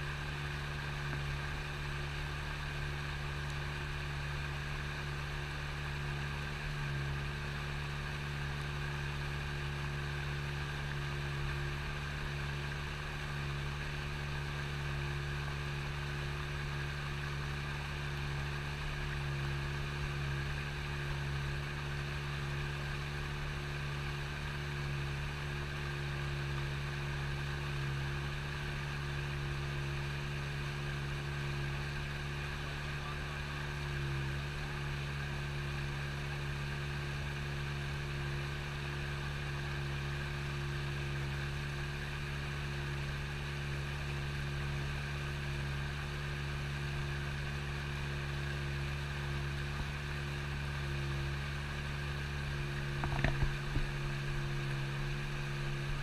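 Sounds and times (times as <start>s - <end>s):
boat motor droning: 0.0s - 56.0s.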